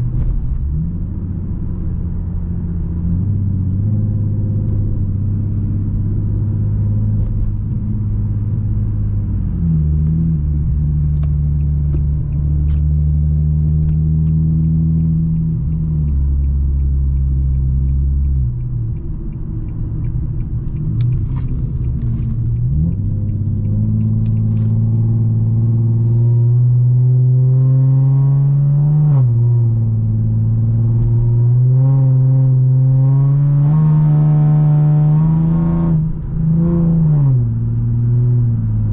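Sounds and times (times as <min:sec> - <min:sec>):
car engine and exhaust accelerating: 0:00.0 - 0:38.9.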